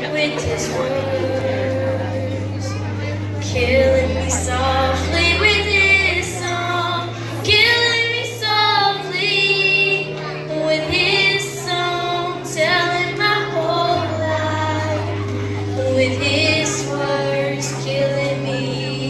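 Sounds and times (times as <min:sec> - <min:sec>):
backing music with bass: 0:00.0 - 0:19.0
girl singing into microphone: 0:00.0 - 0:19.0.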